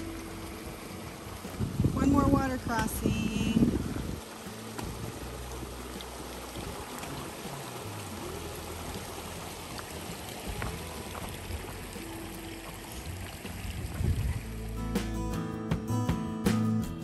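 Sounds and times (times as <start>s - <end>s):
creek water trickling over stones: 0.0s - 15.4s.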